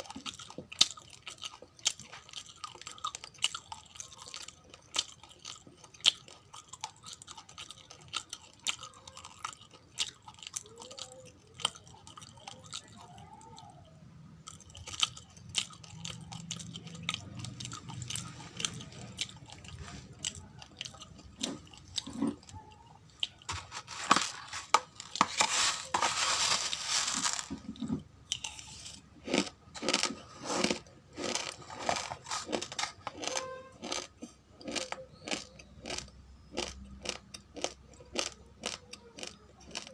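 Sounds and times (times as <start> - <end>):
chewing crunchy rice: 0.0 - 39.9.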